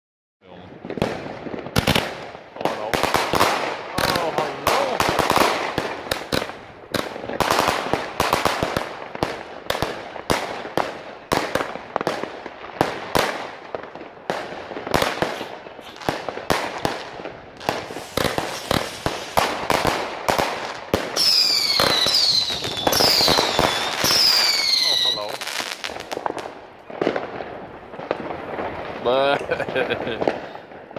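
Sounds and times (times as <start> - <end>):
fireworks bangs and crackling: 0.4 - 30.9
whistling fireworks: 0.5 - 30.9.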